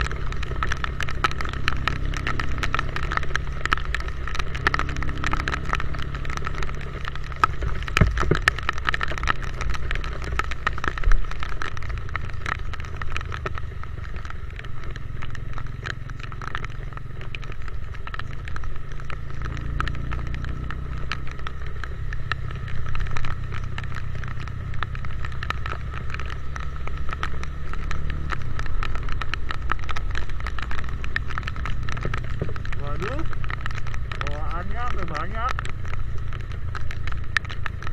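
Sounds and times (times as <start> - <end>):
motorcycle engine droning: 0.0 - 37.9
rain hitting camera: 0.0 - 37.9.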